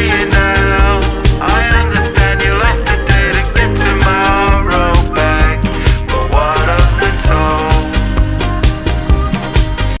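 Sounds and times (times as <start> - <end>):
song with steady drum beat: 0.0 - 10.0.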